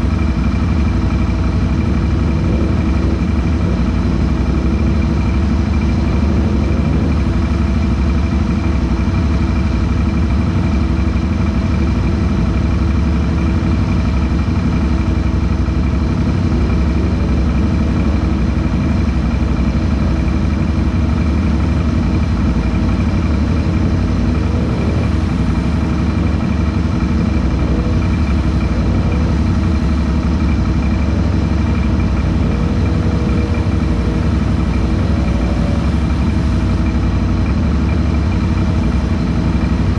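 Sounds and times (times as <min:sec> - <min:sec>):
atv engine idling: 0:00.0 - 0:39.9
distant atv engine revving: 0:00.0 - 0:39.9.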